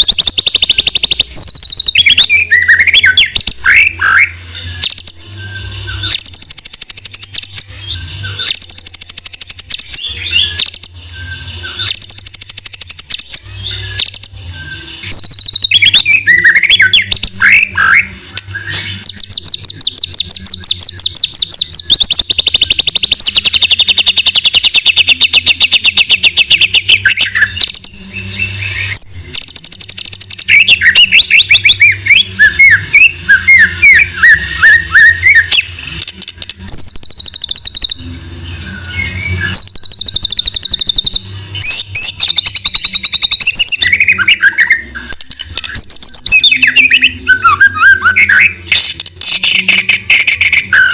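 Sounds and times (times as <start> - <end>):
bird singing whistled phrases: 0.0 - 50.9
bird trilling: 0.0 - 50.9.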